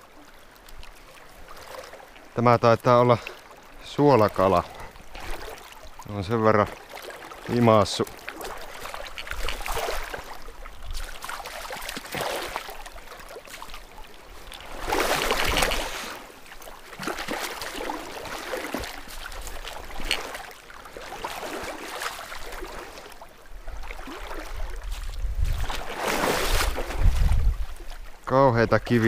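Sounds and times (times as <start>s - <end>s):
water sloshing around legs: 0.0s - 28.2s.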